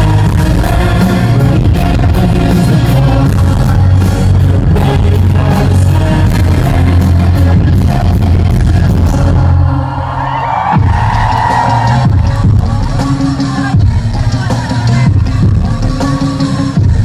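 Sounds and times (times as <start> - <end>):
drum beat: 0.0 - 9.4, 10.7 - 17.0
loud live band music: 0.0 - 17.0
person singing: 0.0 - 17.0.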